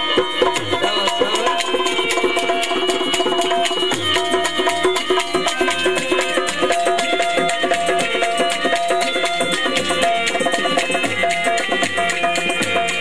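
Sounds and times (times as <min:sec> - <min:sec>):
hand drum played fast: 0:00.0 - 0:13.0
melody instrument holding notes: 0:00.0 - 0:13.0.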